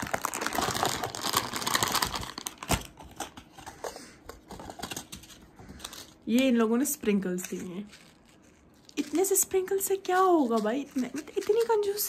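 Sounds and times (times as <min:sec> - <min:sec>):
packaging crinkling and rustling: 0:00.0 - 0:06.2, 0:07.3 - 0:12.0.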